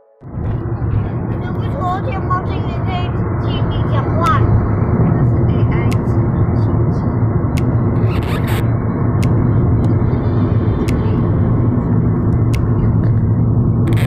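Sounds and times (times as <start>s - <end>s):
car engine and tyres rumbling: 0.2s - 14.0s.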